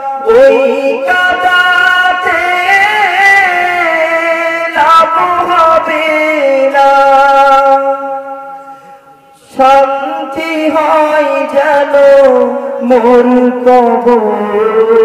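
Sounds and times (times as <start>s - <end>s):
man singing into a microphone: 0.0s - 8.6s, 9.3s - 15.0s.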